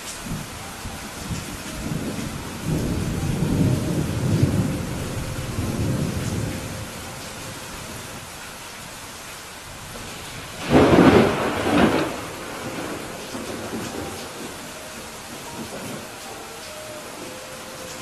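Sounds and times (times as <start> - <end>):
thunder rumbling: 0.0 - 8.4, 9.7 - 18.0
steady rain hissing: 0.0 - 18.0.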